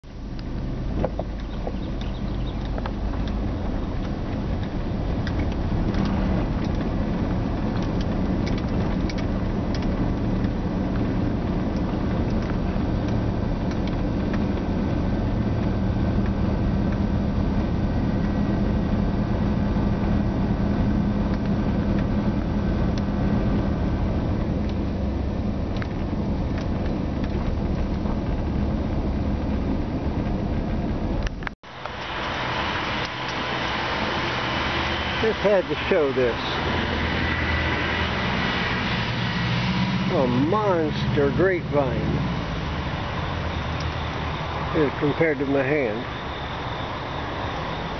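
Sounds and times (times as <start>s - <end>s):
motor vehicle hum and rumble: 0.0s - 47.9s.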